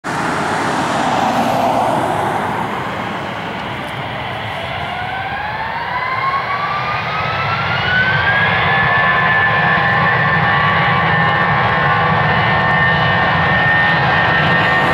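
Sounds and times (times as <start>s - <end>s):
jet engine rumble: 0.0s - 14.9s
jet engine whine rising: 0.0s - 14.9s.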